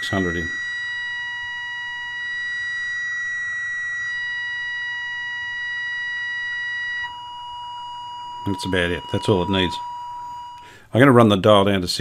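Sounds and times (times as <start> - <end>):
high-pitched test tone: 0.0 - 10.7.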